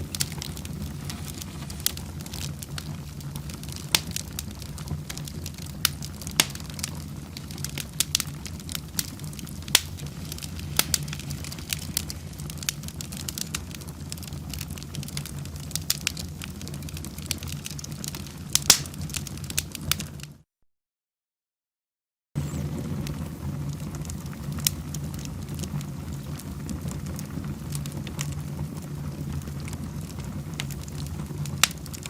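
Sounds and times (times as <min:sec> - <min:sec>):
low fire rumble: 0:00.0 - 0:20.4, 0:22.4 - 0:32.0
wood fire crackling and popping: 0:00.0 - 0:20.4, 0:22.4 - 0:32.0.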